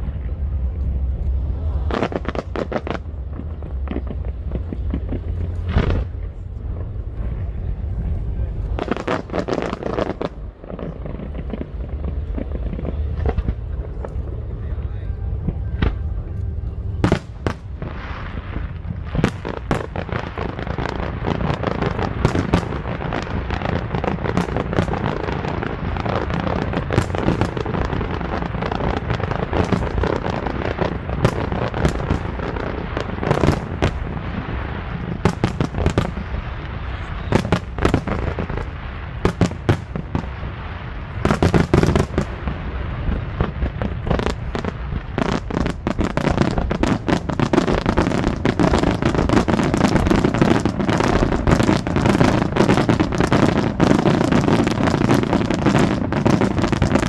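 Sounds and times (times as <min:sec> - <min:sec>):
fireworks bangs and pops: 0:00.0 - 0:57.0.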